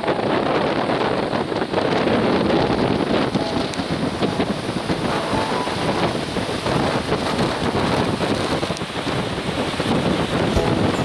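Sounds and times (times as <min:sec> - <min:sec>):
wind buffeting microphone: 0:00.0 - 0:11.0
surf breaking over rocks: 0:01.4 - 0:11.0.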